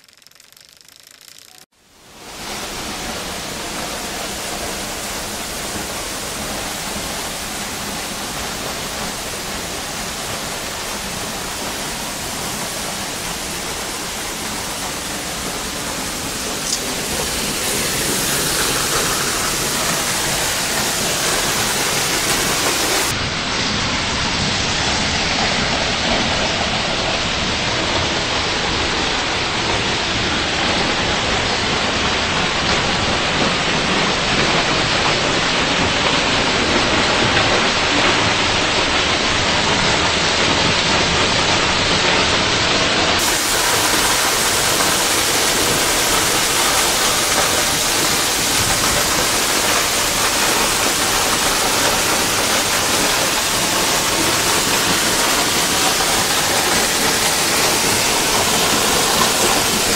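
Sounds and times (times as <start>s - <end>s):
waterfall rushing: 1.9s - 59.9s.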